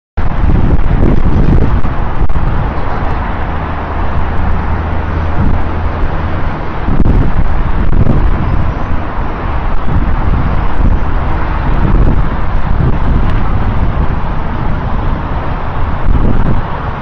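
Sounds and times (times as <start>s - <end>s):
highway traffic roar: 0.2s - 17.0s
wind buffeting microphone: 0.2s - 17.0s.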